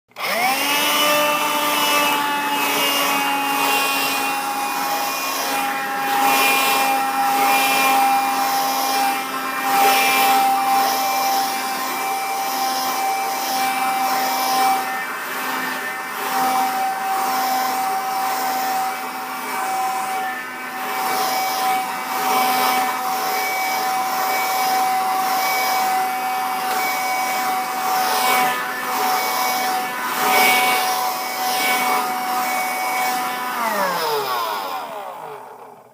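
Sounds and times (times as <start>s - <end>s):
handheld vacuum cleaner running: 0.1s - 35.9s.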